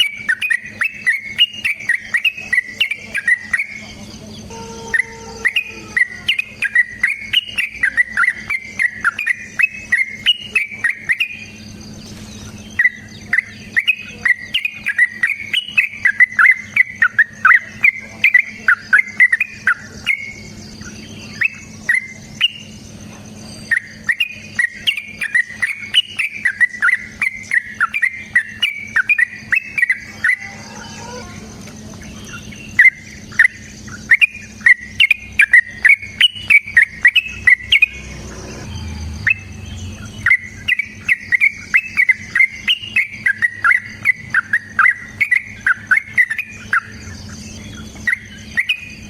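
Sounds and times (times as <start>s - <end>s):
bird singing bubbly chirps: 0.0s - 49.0s
low hum: 0.0s - 49.0s.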